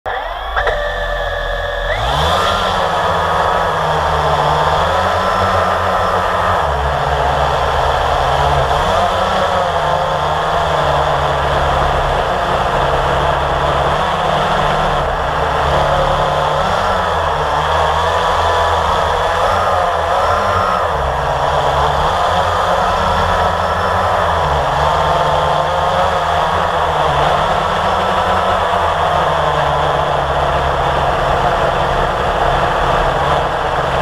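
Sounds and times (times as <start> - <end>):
drone motors whirring: 0.1 - 34.0.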